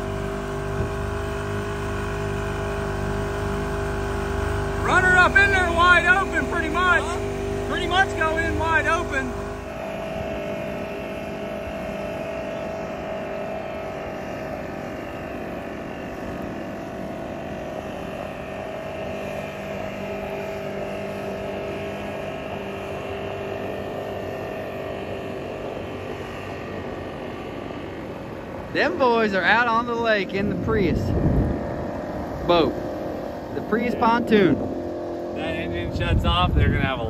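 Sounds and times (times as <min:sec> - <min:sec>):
low tone: 0:00.0 - 0:36.8
boat motor humming: 0:00.0 - 0:37.0.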